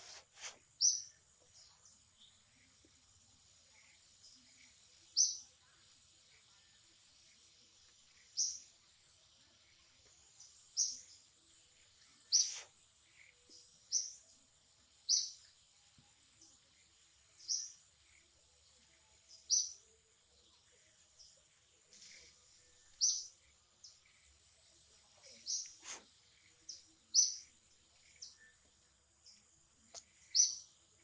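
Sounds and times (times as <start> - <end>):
bird chirping: 0.0 - 31.0
faint high hiss: 0.0 - 31.0.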